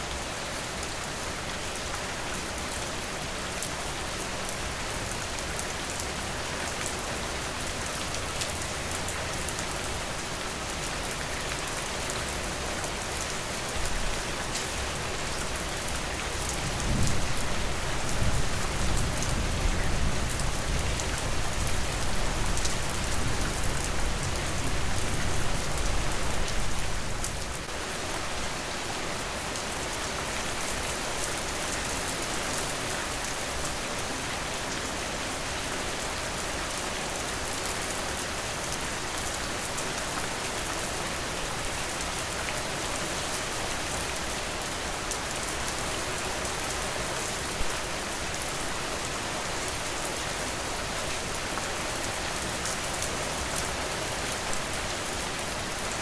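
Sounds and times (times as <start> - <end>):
rain on a surface: 0.0 - 56.0.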